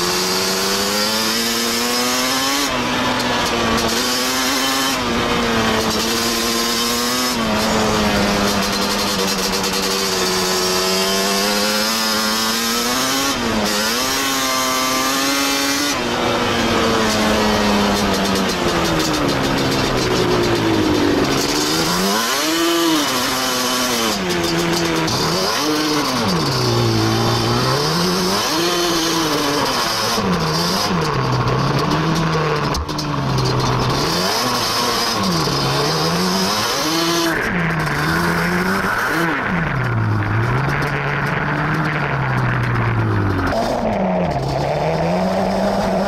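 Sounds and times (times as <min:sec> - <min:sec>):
two-stroke quad engine revving: 0:00.0 - 0:46.0.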